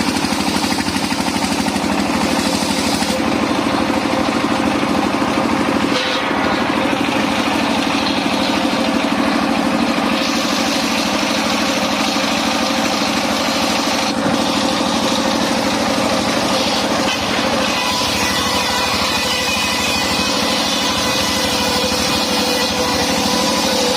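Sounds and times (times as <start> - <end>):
saw blade cutting wood: 0.0 - 23.9
sawmill engine running: 0.0 - 23.9.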